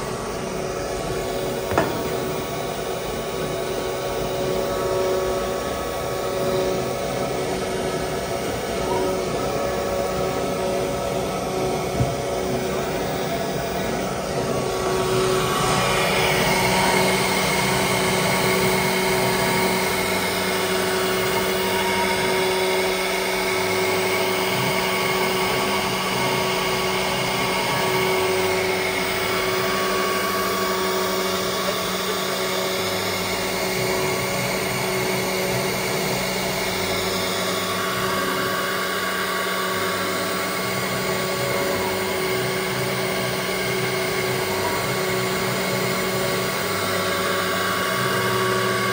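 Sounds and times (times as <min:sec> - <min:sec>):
cnc router spindle whine: 0:00.0 - 0:48.9.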